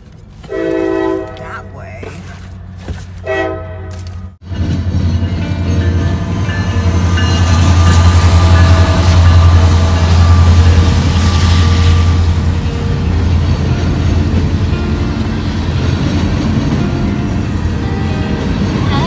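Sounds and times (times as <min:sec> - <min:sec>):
diesel locomotive engine rumble: 0:00.0 - 0:19.0
rolling train cars: 0:00.0 - 0:19.0.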